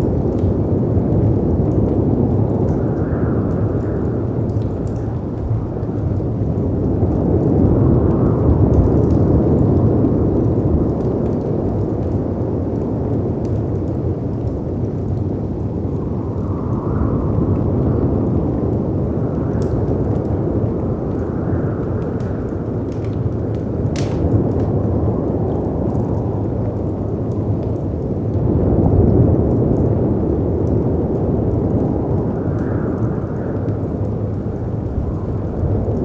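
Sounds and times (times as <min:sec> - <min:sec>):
wind rumbling: 0:00.0 - 0:36.0
wood fire crackling: 0:00.0 - 0:36.0.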